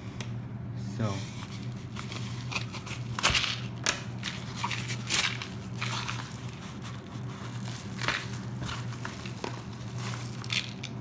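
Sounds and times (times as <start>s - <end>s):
padded envelope crinkled and torn: 1.4s - 11.0s.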